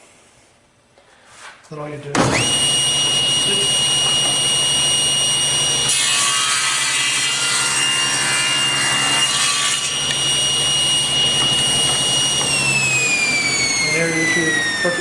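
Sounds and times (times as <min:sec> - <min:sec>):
table saw whining: 0:02.2 - 0:15.0
saw blade cutting wood: 0:02.3 - 0:15.0.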